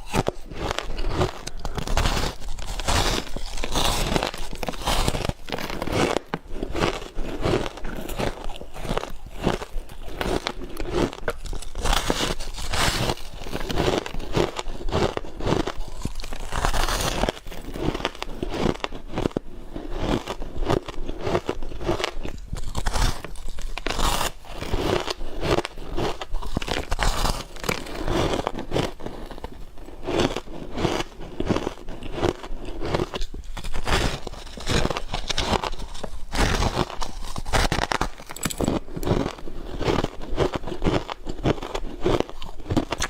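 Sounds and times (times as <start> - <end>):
ice being chewed: 0.0 - 43.0.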